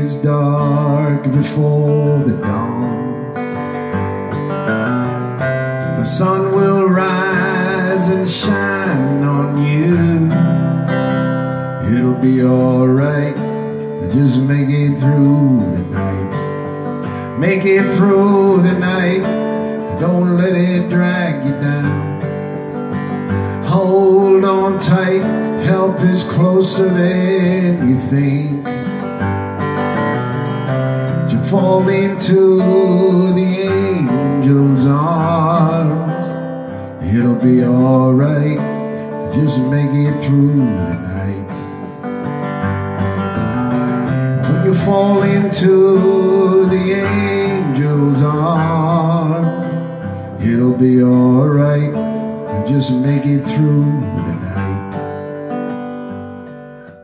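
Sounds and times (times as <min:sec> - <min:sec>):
man singing: 0:00.0 - 0:04.0, 0:05.4 - 0:42.4, 0:43.9 - 0:55.6
acoustic guitar strumming: 0:00.0 - 0:57.0.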